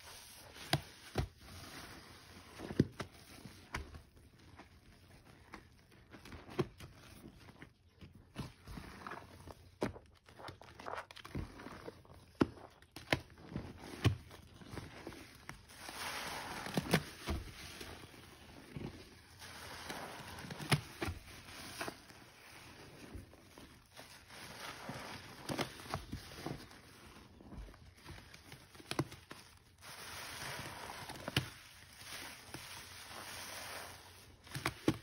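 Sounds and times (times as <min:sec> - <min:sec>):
sponges squelching: 0:00.0 - 0:35.0.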